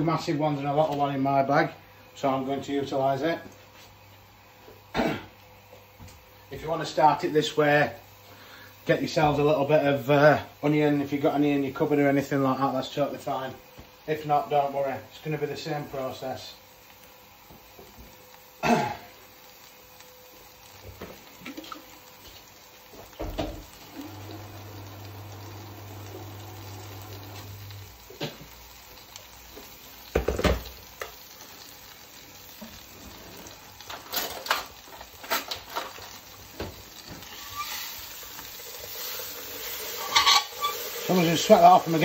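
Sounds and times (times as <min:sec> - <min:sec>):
butter sizzling in pan: 0:00.0 - 0:42.0.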